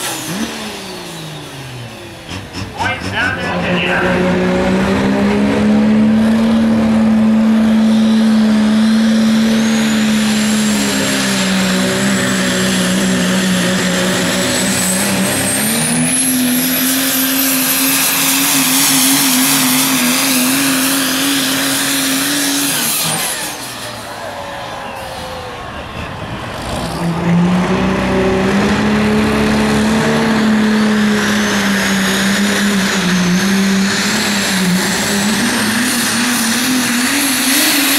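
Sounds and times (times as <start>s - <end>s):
diesel truck engine under load: 0.0s - 37.9s.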